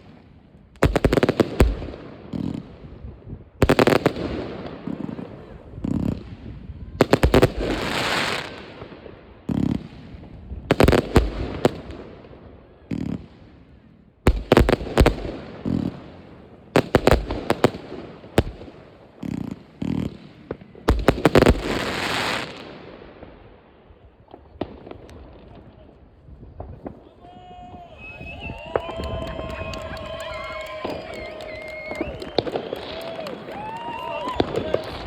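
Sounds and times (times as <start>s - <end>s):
fireworks bangs and cracks: 0.0s - 13.6s, 14.3s - 23.5s, 24.2s - 35.0s.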